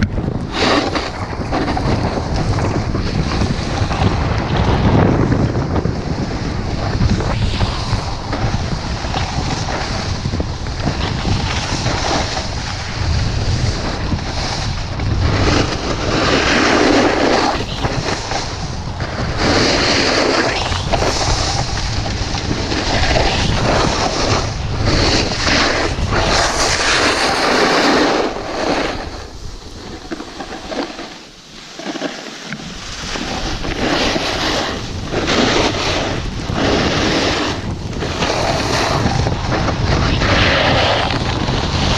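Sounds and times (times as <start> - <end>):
wind buffeting microphone: 0.0 - 31.5, 32.5 - 41.9
snowboard scraping over snow: 0.0 - 41.9.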